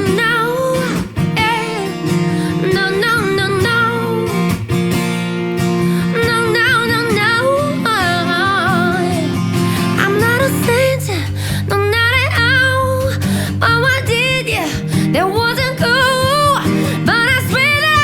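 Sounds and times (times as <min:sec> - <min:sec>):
woman singing with vibrato: 0:00.0 - 0:04.8, 0:05.6 - 0:18.0
guitar accompaniment: 0:00.0 - 0:18.0.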